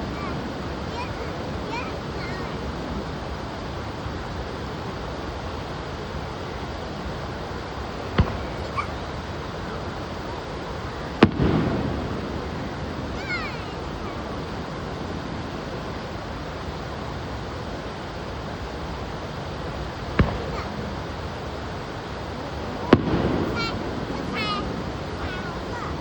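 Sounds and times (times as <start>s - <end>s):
fireworks bangs: 0.0s - 6.0s, 7.0s - 26.0s.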